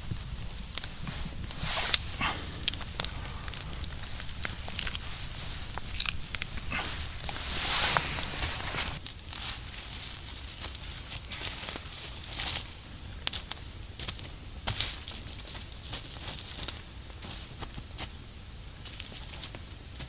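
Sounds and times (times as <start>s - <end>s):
crinkling and rustling: 0.0s - 17.8s.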